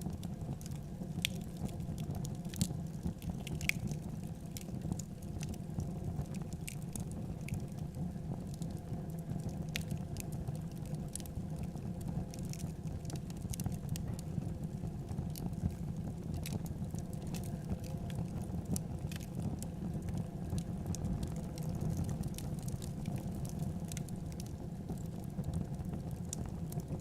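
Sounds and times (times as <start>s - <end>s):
wood fire burning and crackling: 0.0s - 27.0s.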